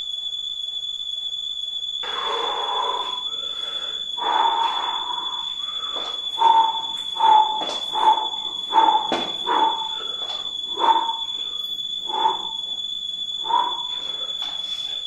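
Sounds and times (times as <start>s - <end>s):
hand whistle hoots: 2.0s - 15.0s
thin high tone: 2.0s - 15.0s.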